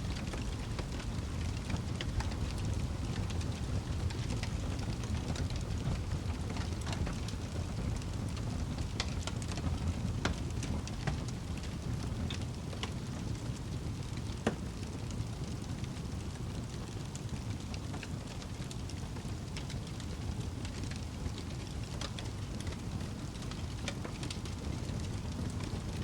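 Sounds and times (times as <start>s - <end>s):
fire low rumble: 0.0s - 26.0s
wood fire crackling and popping: 0.0s - 26.0s.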